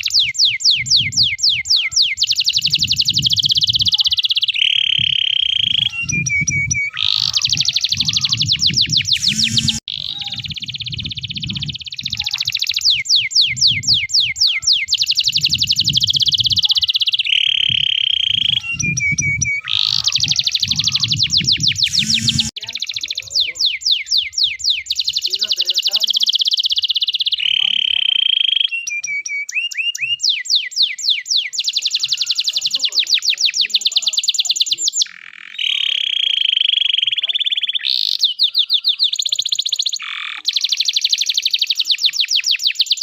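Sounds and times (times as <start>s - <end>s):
canary singing trills: 0.0s - 43.0s.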